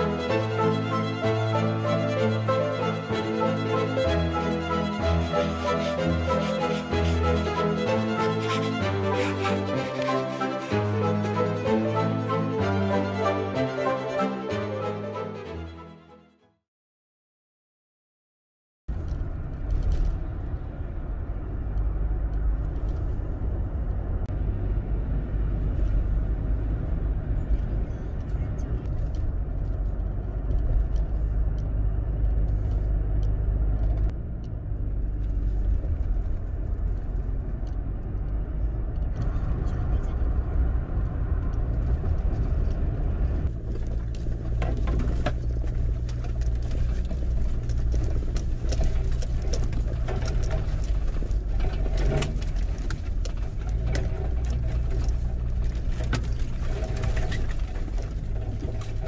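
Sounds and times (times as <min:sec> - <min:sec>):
vehicle driving rumble: 0:00.0 - 0:13.7, 0:18.9 - 0:59.0.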